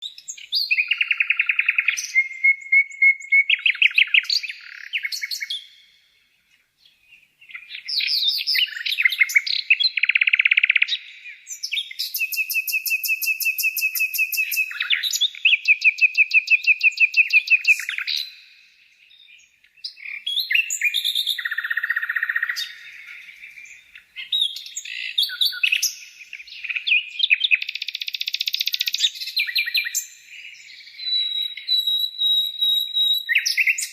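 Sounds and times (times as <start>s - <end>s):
songbirds trilling and chirping: 0.0s - 33.9s.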